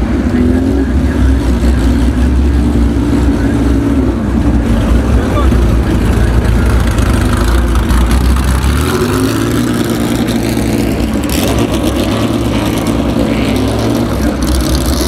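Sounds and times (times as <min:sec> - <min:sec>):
race car engine running: 0:00.0 - 0:15.0.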